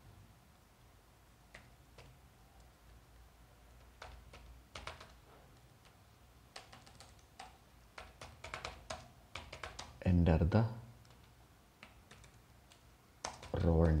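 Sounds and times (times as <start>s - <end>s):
keyboard typing: 1.5s - 10.0s, 11.0s - 14.0s.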